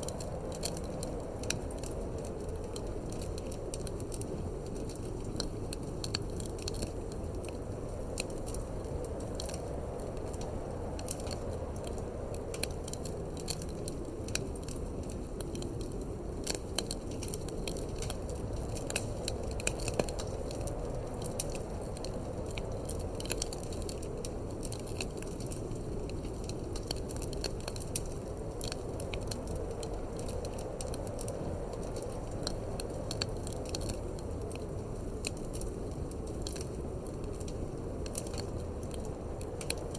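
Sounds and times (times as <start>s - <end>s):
low rumble of wind: 0.0s - 39.9s
wood fire crackling and popping: 0.0s - 39.9s.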